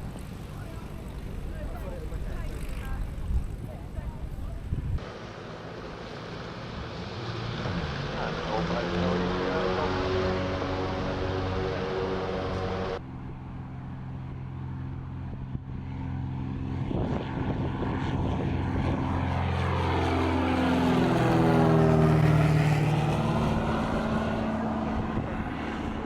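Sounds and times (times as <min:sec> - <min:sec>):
propeller aircraft passing: 0:00.0 - 0:26.0.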